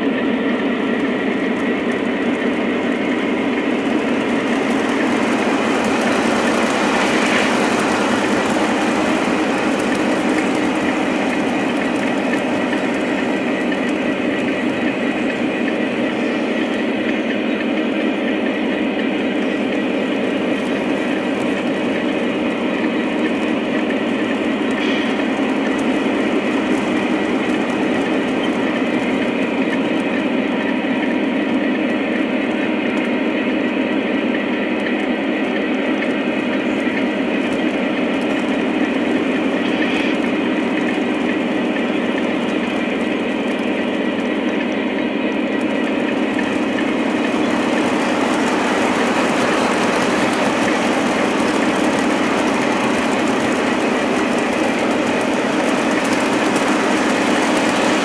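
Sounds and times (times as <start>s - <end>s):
clickety-clack of rail joints: 0.0s - 58.0s
model train wheels rumbling on track: 0.0s - 58.0s.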